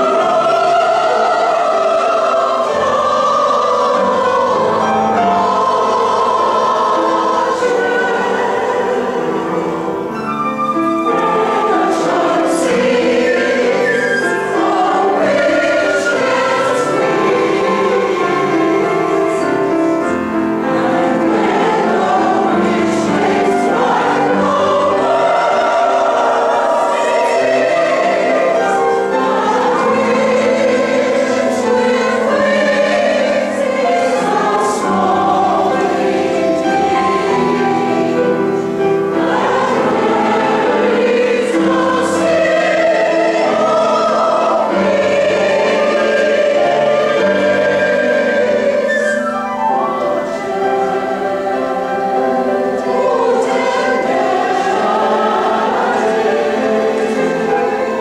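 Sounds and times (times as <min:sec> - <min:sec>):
mixed choir singing in harmony: 0:00.0 - 0:58.0.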